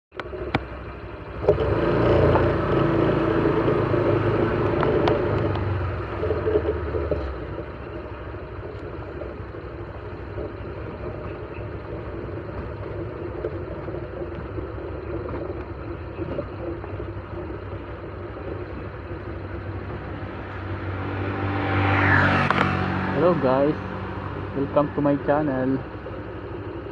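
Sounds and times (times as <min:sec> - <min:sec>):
motorcycle engine running: 0:00.1 - 0:26.9.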